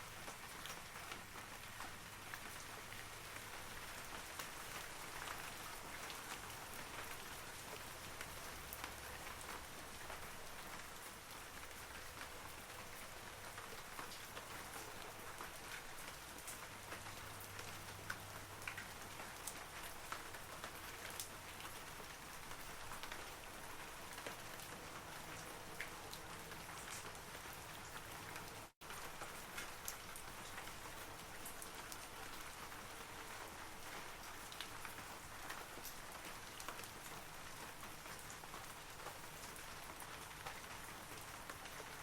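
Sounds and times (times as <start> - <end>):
rain on trees: 0.0 - 42.0.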